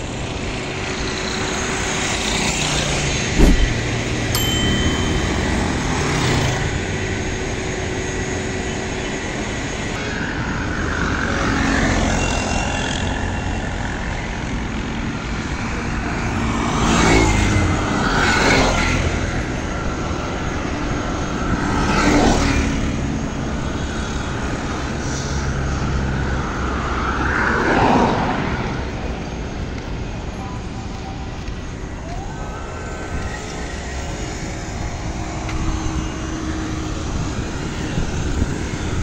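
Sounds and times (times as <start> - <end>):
steady low road noise: 0.0 - 39.0
vehicles passing: 0.0 - 39.0.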